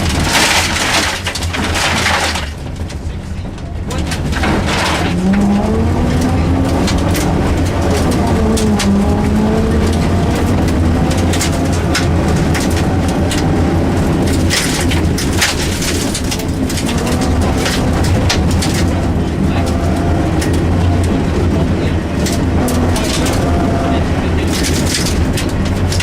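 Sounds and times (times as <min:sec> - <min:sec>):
rally car engine revving: 0:00.0 - 0:26.0
sharp clatters and knocks: 0:00.0 - 0:26.0.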